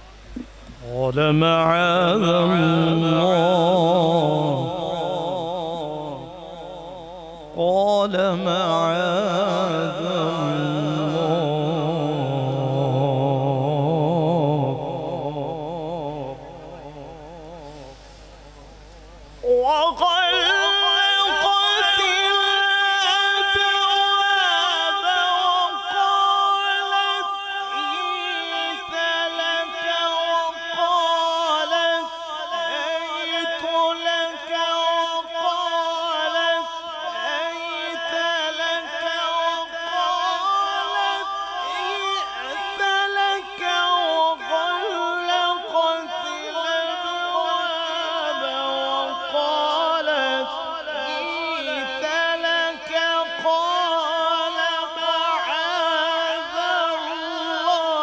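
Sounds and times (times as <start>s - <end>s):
man chanting into a microphone: 0.0s - 58.0s.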